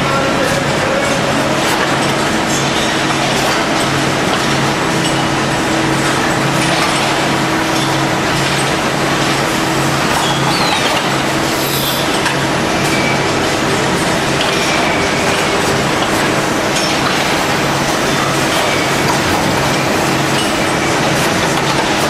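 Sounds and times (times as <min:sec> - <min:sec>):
machinery hiss and hum: 0:00.0 - 0:22.0.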